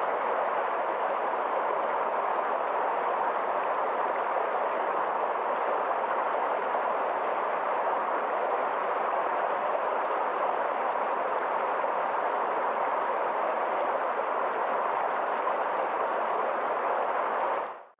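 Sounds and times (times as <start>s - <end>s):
stream rushing over rocks: 0.0s - 17.7s.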